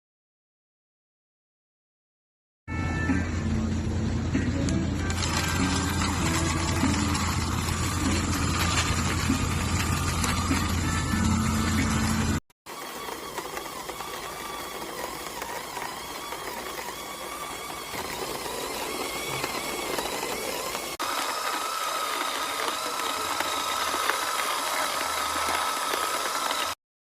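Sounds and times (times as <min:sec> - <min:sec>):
coffee grinder motor whining: 0:04.7 - 0:26.8.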